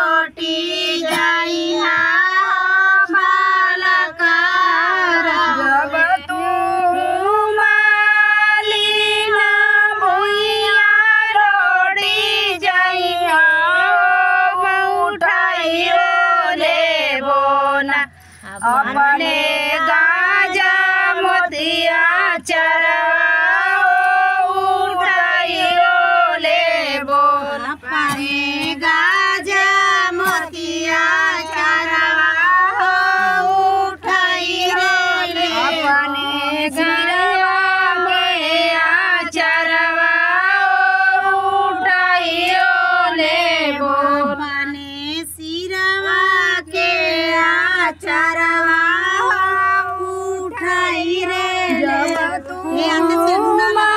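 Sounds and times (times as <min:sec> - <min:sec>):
woman singing unaccompanied: 0:00.0 - 0:53.9.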